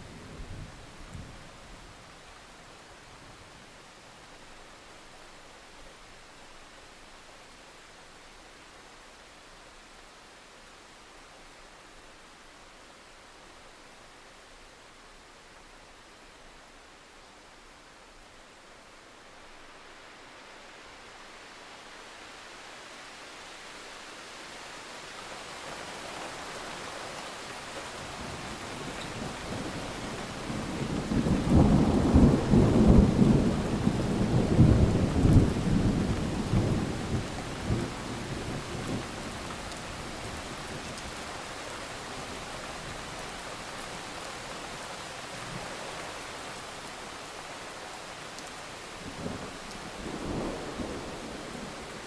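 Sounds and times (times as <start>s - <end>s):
steady rain hissing: 0.0s - 52.0s.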